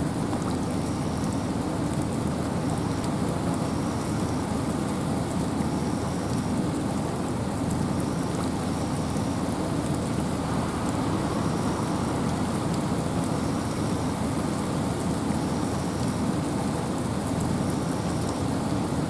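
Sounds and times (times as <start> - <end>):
rain falling through trees: 0.0 - 19.0
wind: 0.0 - 19.0.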